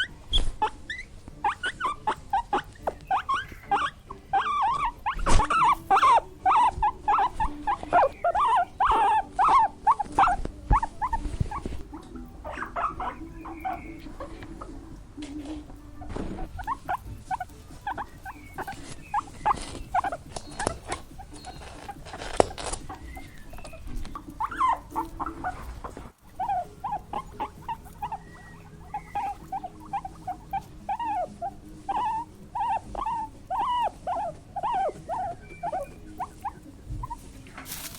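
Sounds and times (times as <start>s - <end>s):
small animals squeaking: 0.0s - 37.9s.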